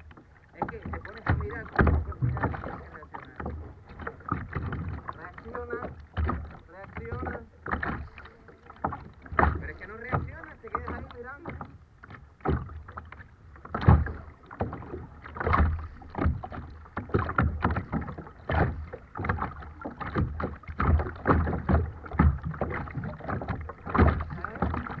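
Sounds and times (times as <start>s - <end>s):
water splashing against kayak hull: 0.0s - 25.0s.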